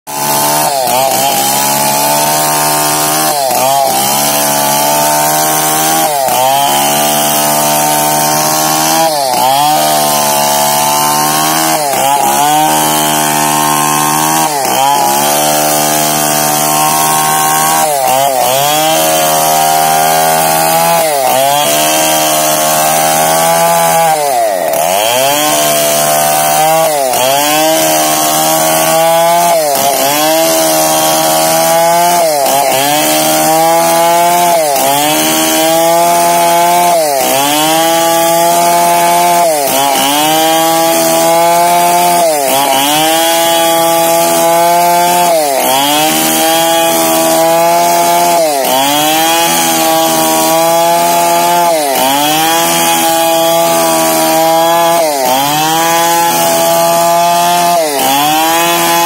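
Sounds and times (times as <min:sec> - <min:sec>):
chainsaw cutting log: 0:00.1 - 0:59.0.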